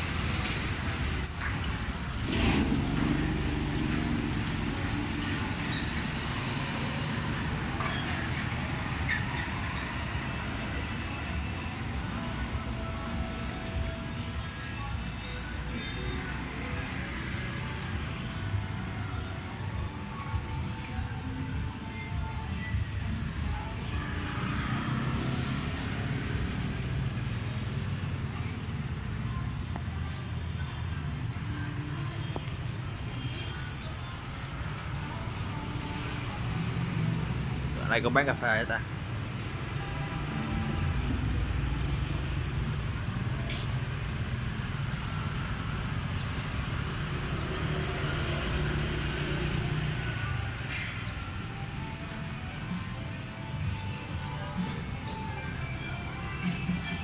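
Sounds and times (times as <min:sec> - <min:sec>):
cars and motorbikes passing: 0:00.0 - 0:57.0
street traffic rumble: 0:00.0 - 0:57.0.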